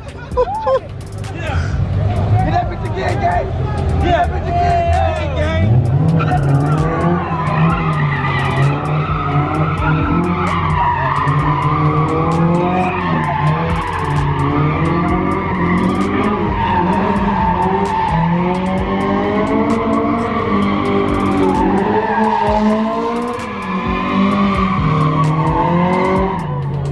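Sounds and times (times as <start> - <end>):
tire screech: 0.0 - 26.9
car engine at high revs: 0.8 - 26.9.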